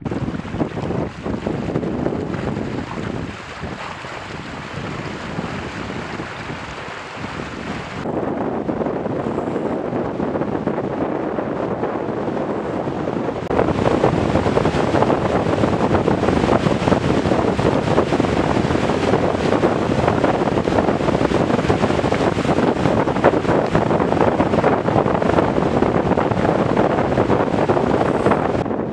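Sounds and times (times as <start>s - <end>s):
water rushing past hull: 0.0s - 28.7s
wind buffeting microphone: 0.0s - 28.9s.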